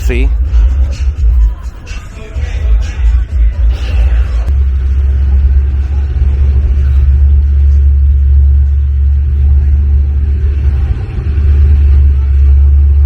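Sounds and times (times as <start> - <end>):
dirt bike engine rumbling: 0.0 - 13.0.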